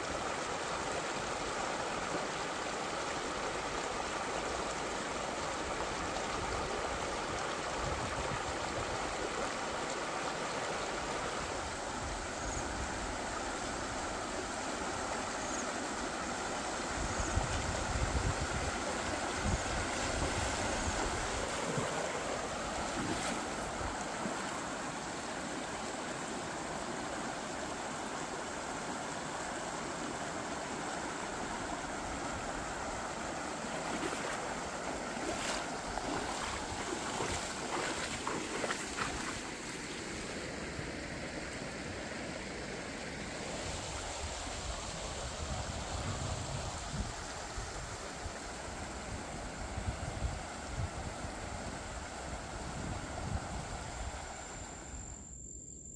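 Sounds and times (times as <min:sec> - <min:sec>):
stream rushing over stones: 0:00.0 - 0:54.9.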